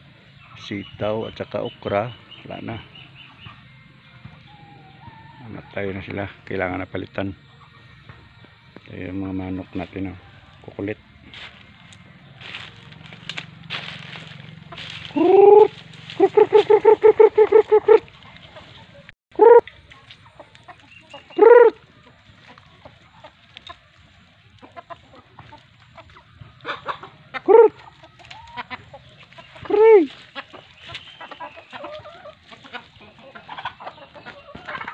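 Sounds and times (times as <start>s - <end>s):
chickens clucking: 0.1s - 34.9s.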